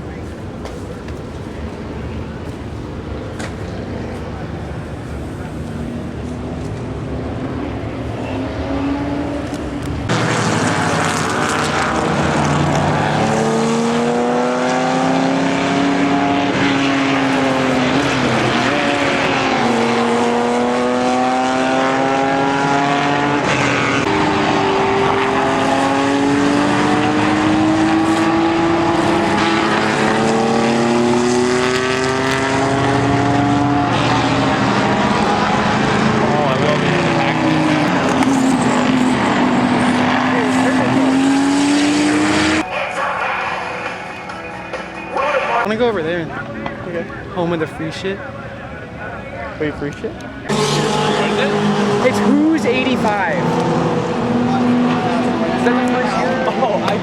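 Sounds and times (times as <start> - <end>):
race car engines shifting gears: 0.0 - 57.0.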